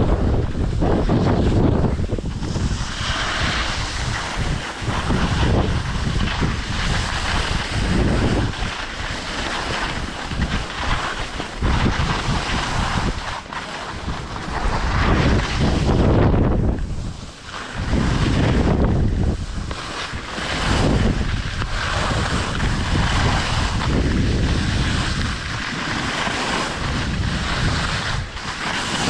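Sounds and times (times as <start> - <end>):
skis sliding over snow: 0.0 - 29.0
wind buffeting microphone: 0.0 - 29.0.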